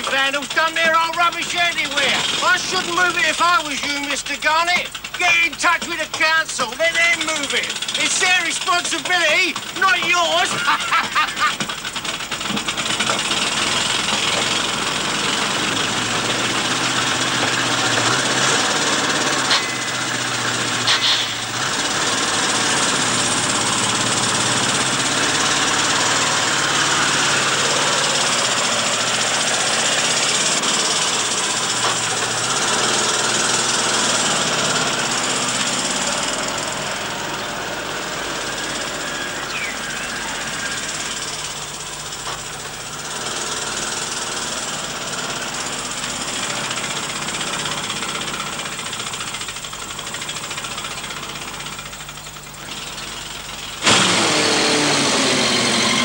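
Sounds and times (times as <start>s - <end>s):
motorcycle engine knocking: 0.0s - 53.8s.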